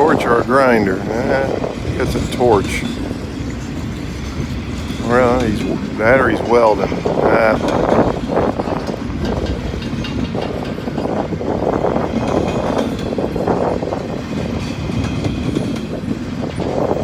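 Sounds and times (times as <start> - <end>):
train rumble: 0.0 - 17.0
train wheels clicking over rail joints: 0.0 - 17.0.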